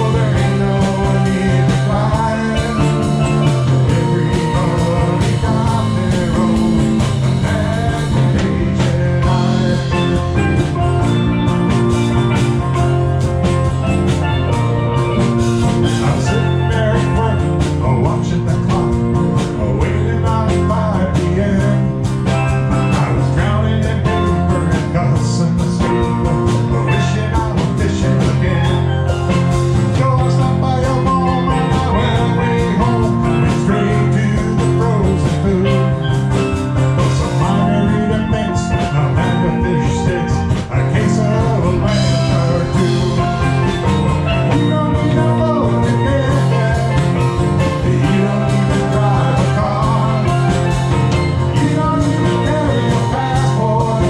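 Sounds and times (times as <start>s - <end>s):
bass guitar: 0.0s - 54.0s
drum kit beat: 0.0s - 54.0s
guitar: 0.0s - 54.0s.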